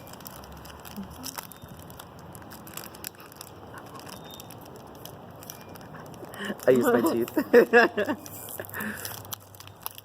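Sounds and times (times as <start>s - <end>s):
plastic wrappers crinkling: 0.0s - 10.0s.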